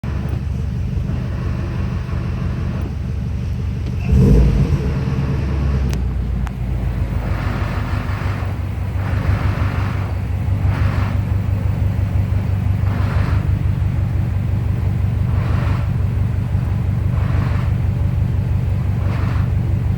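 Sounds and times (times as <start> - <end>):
car engine idling: 0.0 - 19.9
clutch rattle: 0.0 - 19.9.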